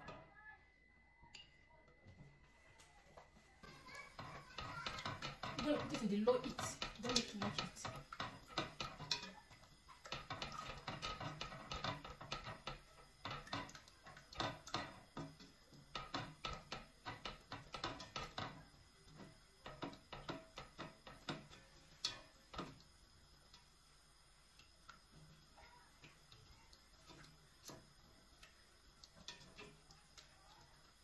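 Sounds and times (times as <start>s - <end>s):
spatula scraping metal pot: 3.6s - 22.8s, 25.1s - 31.0s.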